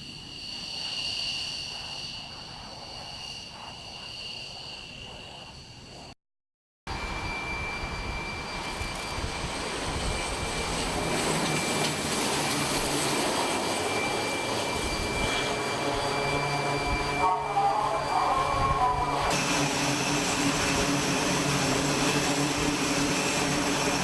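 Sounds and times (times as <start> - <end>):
turboprop engines running: 0.0 - 6.1, 6.9 - 24.0.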